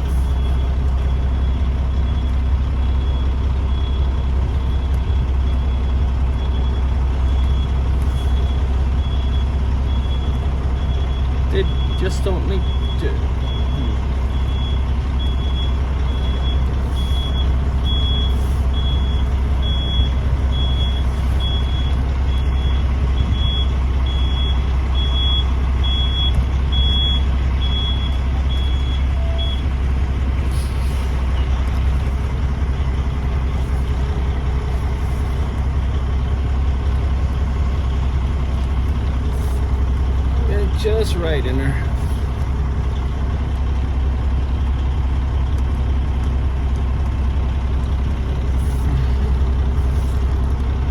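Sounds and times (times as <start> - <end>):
diesel engine rumble: 0.0 - 50.9
truck backup alarm beeping: 0.0 - 50.9.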